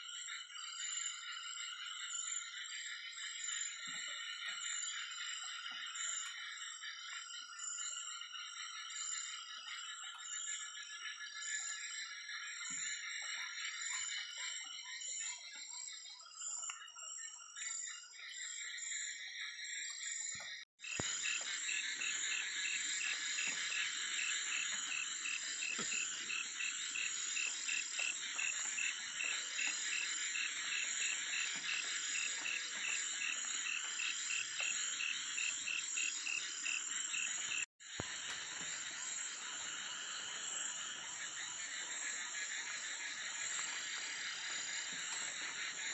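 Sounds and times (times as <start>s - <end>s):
frogs and insects trilling: 0.0s - 45.9s.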